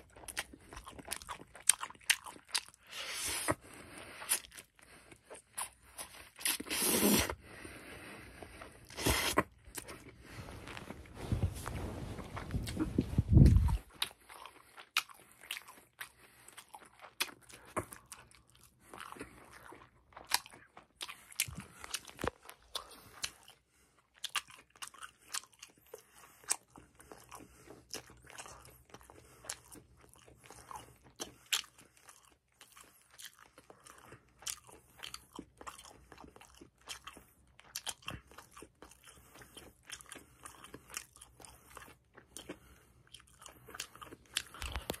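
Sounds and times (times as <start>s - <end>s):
person chewing noodles: 0.0s - 45.0s.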